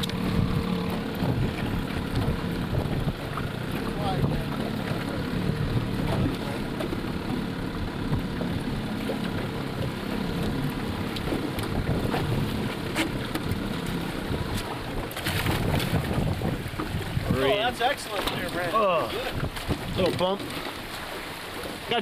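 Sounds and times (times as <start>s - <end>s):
wind on microphone: 0.0s - 20.3s
outboard motor running: 0.0s - 22.0s.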